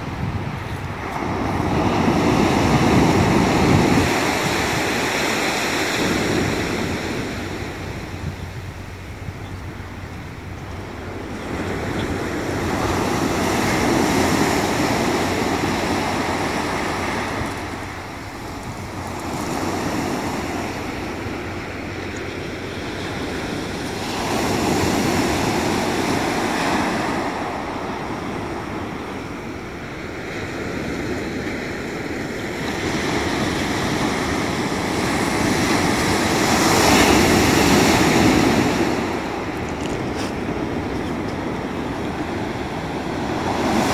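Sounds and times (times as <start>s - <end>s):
waves breaking on pebble beach: 0.0s - 9.8s, 10.4s - 43.9s.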